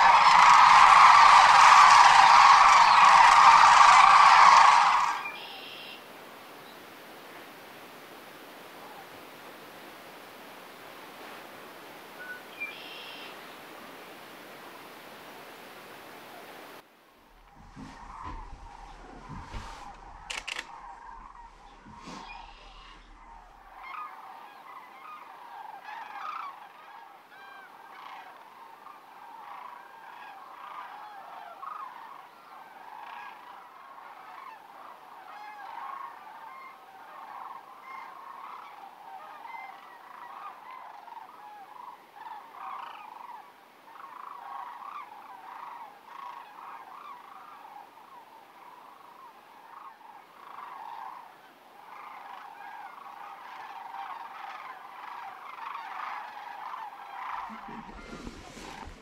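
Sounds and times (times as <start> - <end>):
cranes calling: 0.0 - 6.0, 17.2 - 59.0.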